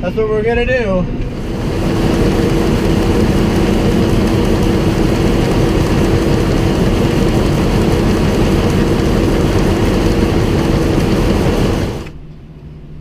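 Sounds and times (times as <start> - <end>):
tractor engine running: 1.2 - 12.1.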